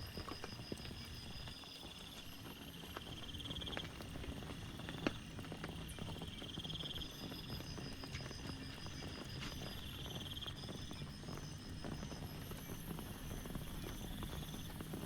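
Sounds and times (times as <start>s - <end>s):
rain pattering and dripping: 0.0s - 15.0s.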